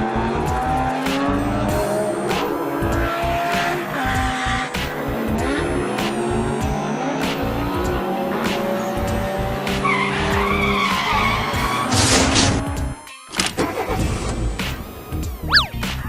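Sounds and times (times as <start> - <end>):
cartoon car engine: 0.0 - 13.0, 13.6 - 15.7
background music: 0.0 - 16.0.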